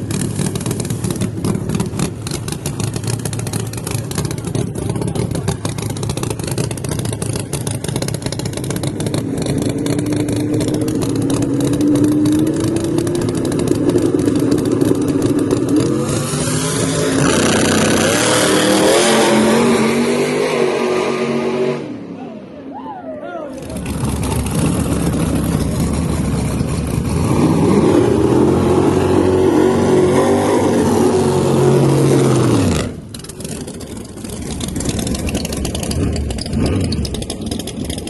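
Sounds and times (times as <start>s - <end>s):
drag car engine revving: 0.0s - 22.2s, 23.5s - 38.0s.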